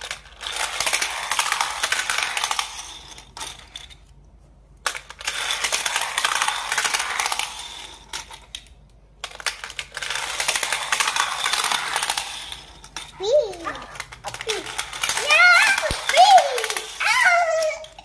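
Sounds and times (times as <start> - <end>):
toy cars rattling down plastic track: 0.0 - 4.2, 4.8 - 18.0.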